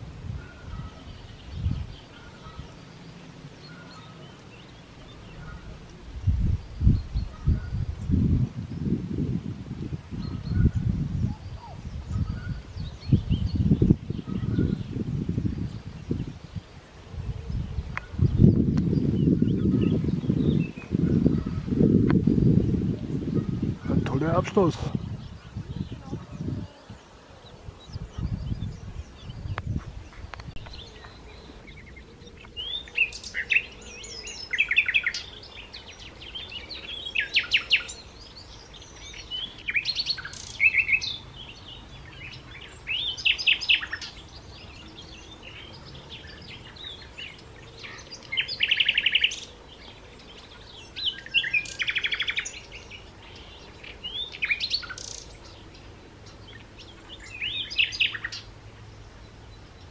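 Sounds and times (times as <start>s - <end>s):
songbird chirping trills: 0.0s - 59.9s
wind rumbling on microphone: 0.0s - 59.9s.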